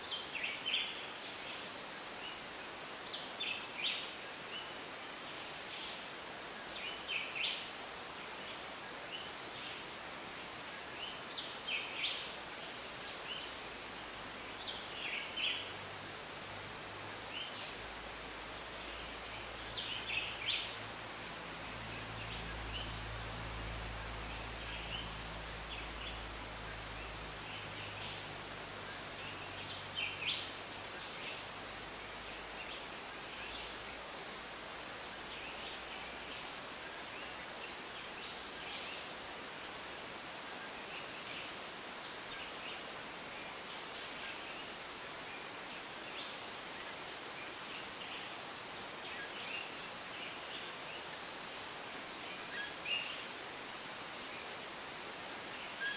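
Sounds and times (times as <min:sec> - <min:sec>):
birds and frogs chirping: 0:00.0 - 0:55.9.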